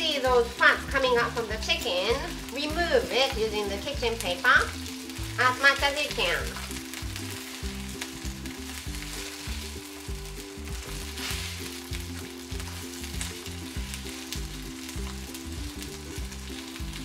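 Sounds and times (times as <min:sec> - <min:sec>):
background music with low notes: 0:00.0 - 0:17.0
chicken sizzling in a skillet: 0:00.0 - 0:17.0
tongs dabbing the pan: 0:00.1 - 0:16.9.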